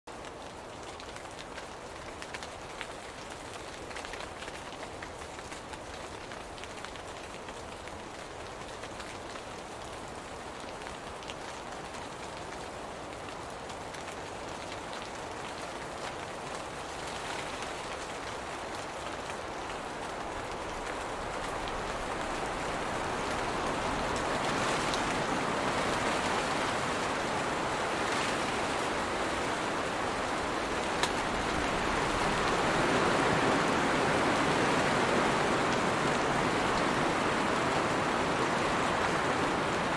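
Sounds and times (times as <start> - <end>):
rain falling on leaves: 0.1 - 39.9.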